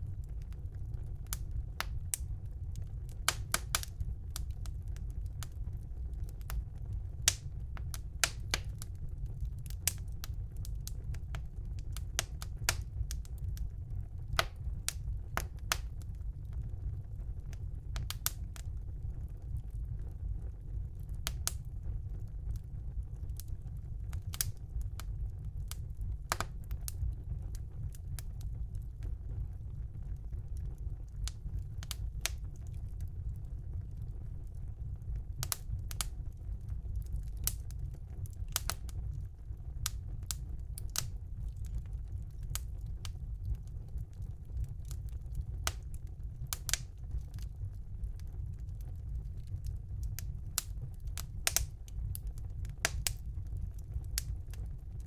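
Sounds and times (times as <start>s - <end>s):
fire crackling in a fireplace: 0.0s - 55.0s.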